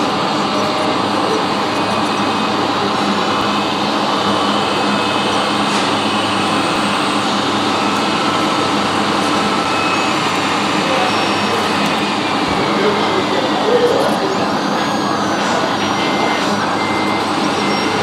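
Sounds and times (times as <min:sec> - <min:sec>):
hydraulic pump running: 0:00.0 - 0:18.0.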